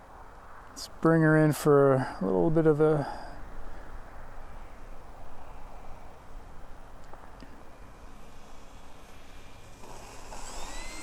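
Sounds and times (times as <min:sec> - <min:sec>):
wind blowing across microphone: 0:00.0 - 0:11.0.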